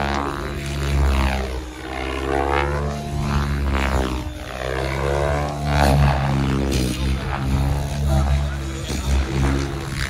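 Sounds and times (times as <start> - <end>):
model helicopter rotor buzz: 0.0 - 10.0.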